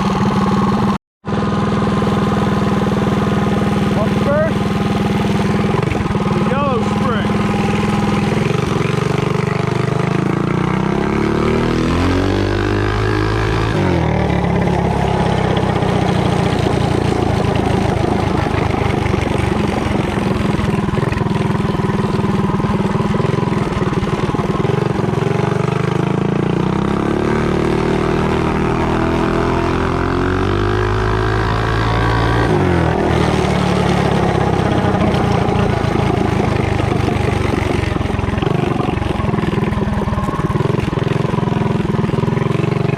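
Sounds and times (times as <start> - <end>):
small gas engine accelerating: 0.0 - 42.9.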